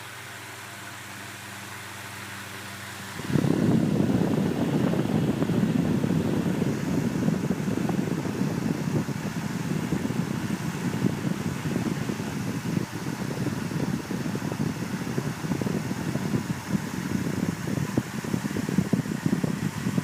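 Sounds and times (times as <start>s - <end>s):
fan air rushing: 0.0s - 20.0s
fan low hum: 0.0s - 20.0s.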